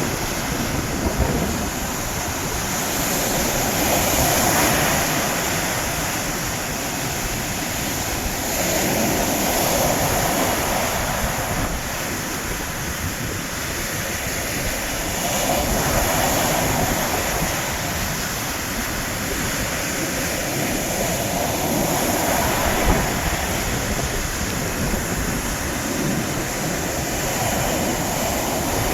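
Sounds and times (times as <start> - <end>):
sea waves breaking on shore: 0.0 - 28.9.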